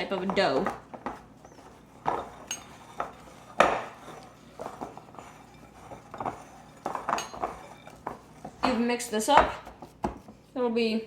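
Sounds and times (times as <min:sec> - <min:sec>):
spatula scraping mixing bowl: 0:00.0 - 0:10.6.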